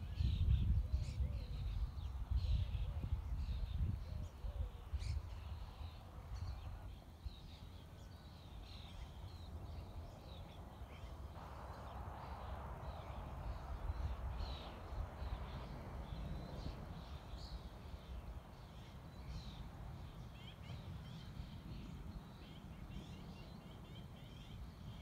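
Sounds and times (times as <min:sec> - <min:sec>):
birds chirping: 0:00.0 - 0:25.0
wind rumble on microphone: 0:00.0 - 0:25.0.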